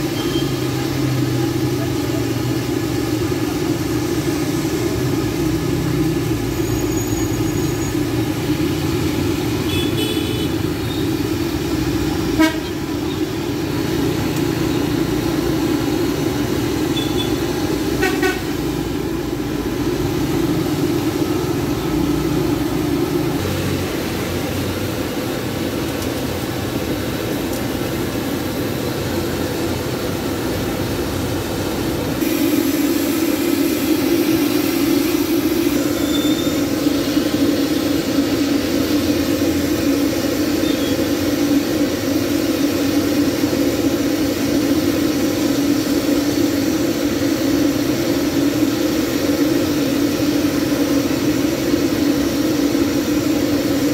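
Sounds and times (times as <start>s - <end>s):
chicken sizzling in bubbling oil: 0.0s - 53.9s
gas burners roaring: 0.0s - 53.9s.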